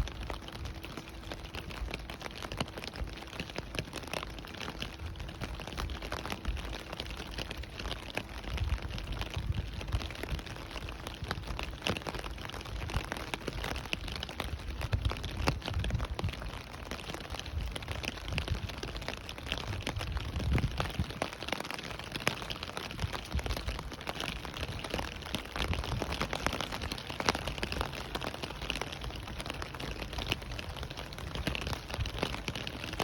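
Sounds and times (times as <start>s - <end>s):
raindrops pattering on surfaces: 0.0s - 33.0s
steady rain: 0.0s - 33.0s.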